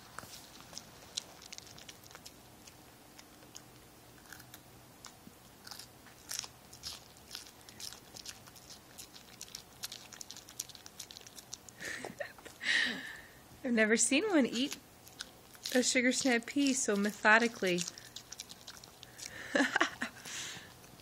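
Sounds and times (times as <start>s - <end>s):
dog crunching pea: 0.0s - 12.6s, 14.1s - 21.0s.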